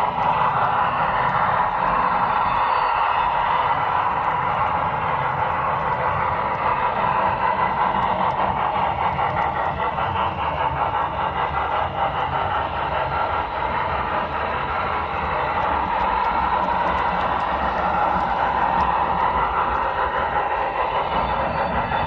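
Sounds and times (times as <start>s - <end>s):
model train motor whirring: 0.1s - 22.0s.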